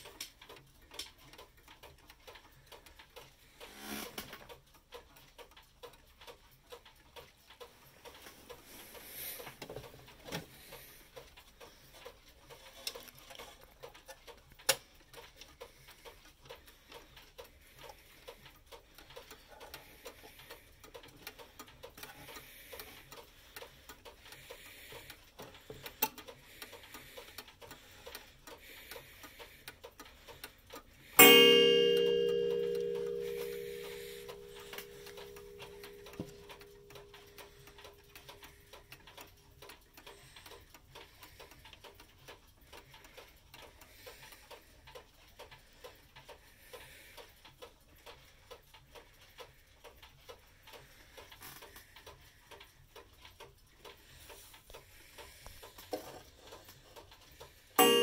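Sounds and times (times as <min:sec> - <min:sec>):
clock clicks: 0:00.0 - 0:58.0
clock ticking faintly: 0:00.0 - 0:58.0.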